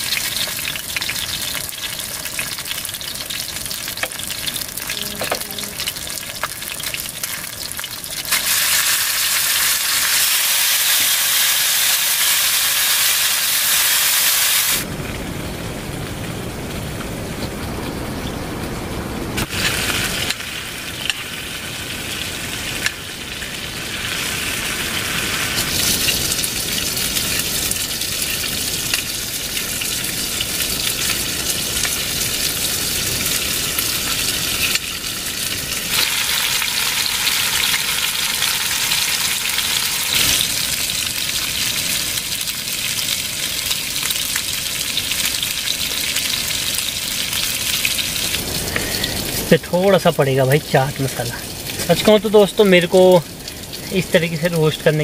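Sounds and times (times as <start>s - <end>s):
food sizzling in a pan: 0.0s - 14.9s, 19.4s - 55.0s.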